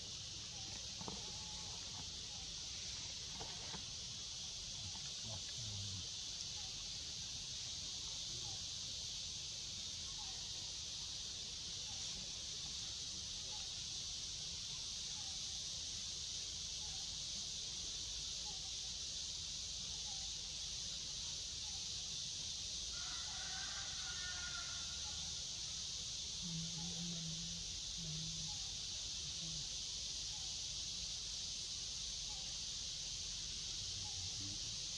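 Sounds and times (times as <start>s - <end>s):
insect chorus drone: 0.0s - 34.9s.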